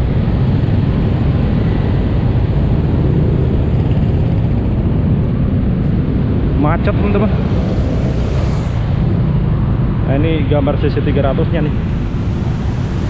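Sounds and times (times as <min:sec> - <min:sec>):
motorcycle engines in traffic jam: 0:00.0 - 0:13.0.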